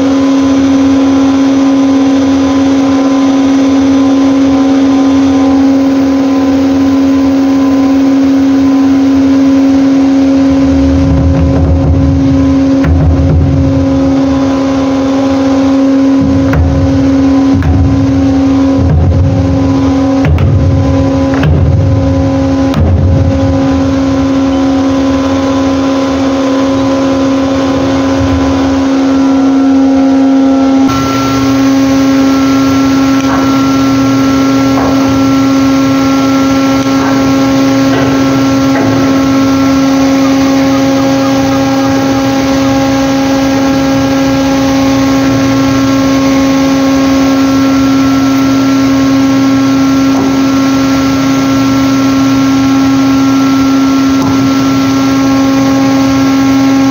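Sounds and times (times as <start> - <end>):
ship machinery droning hum: 0.0 - 56.9.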